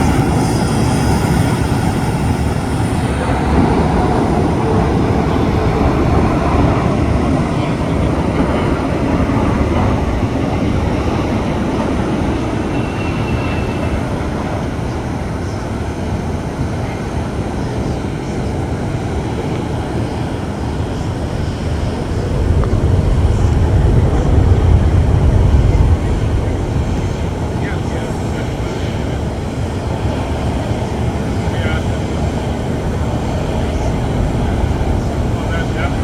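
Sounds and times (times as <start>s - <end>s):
jet engine roar: 0.0s - 36.0s.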